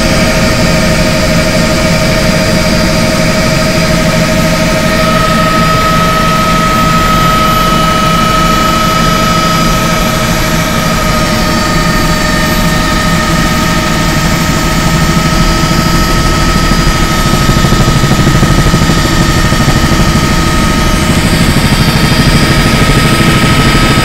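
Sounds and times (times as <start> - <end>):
helicopter engine and rotor din: 0.0 - 24.0
high steady whine: 0.0 - 24.0.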